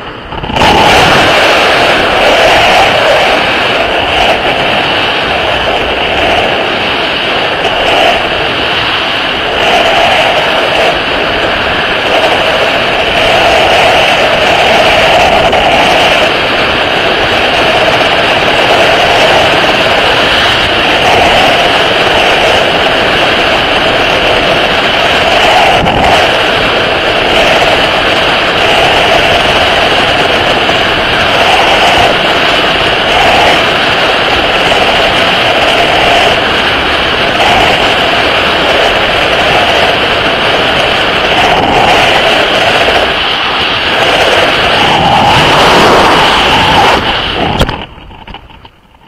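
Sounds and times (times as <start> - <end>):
wind rushing over microphone: 0.0 - 49.0.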